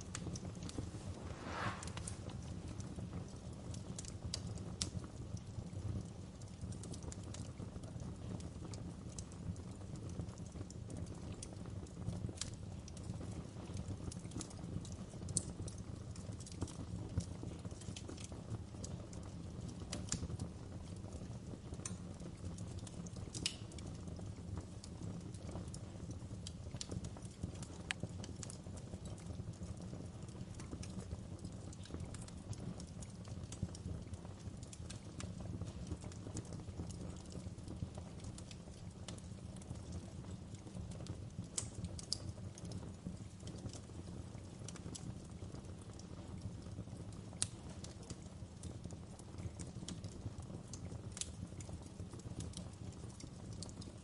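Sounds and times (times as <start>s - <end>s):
fire popping and snapping: 0.0s - 54.0s
wood fire crackling: 0.0s - 54.0s.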